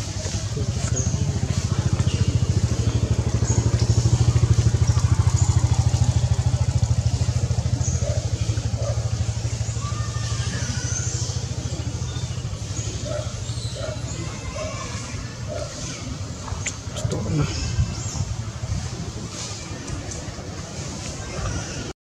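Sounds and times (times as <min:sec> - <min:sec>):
small engine idling: 0:00.0 - 0:21.9.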